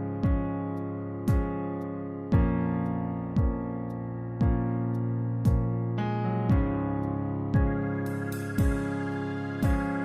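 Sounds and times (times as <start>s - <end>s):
held keyboard chords: 0.0s - 10.0s.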